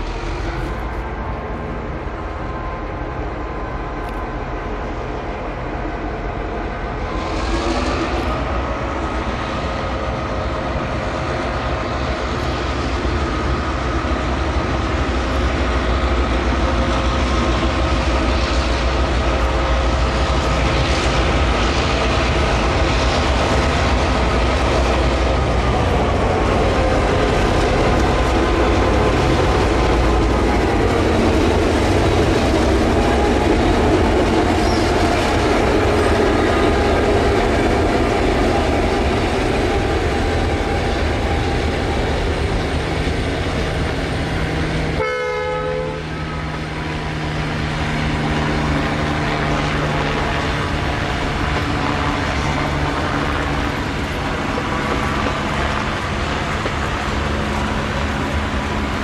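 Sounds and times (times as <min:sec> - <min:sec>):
diesel locomotive engines: 0:00.0 - 0:59.0
train wheels clicking over rail joints: 0:07.2 - 0:45.0, 0:46.3 - 0:59.0.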